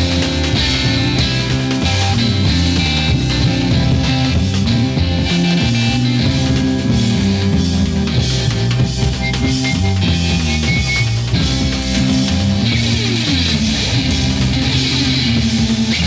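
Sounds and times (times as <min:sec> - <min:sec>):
bass guitar: 0:00.0 - 0:16.0
drum kit: 0:00.0 - 0:16.0
electric guitar: 0:00.0 - 0:16.0.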